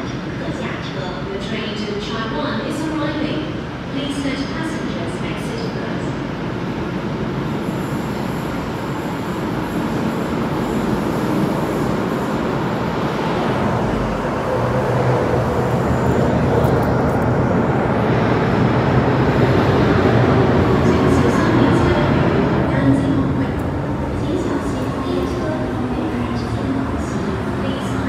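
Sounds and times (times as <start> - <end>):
train rumbling into station: 0.0 - 28.0.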